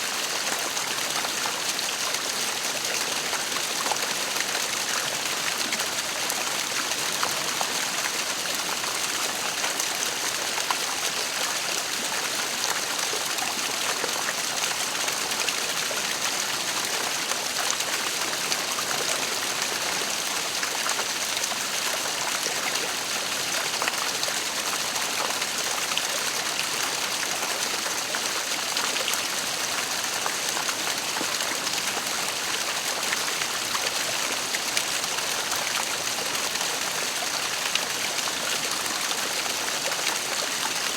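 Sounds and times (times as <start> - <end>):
waterfall pouring and splashing: 0.0 - 40.9.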